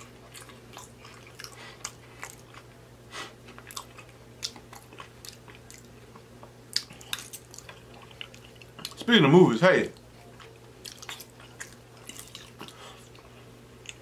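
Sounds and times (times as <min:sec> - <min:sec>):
person chewing with lips smacking: 0:00.0 - 0:09.1, 0:10.0 - 0:14.0
faint low hum: 0:00.0 - 0:14.0.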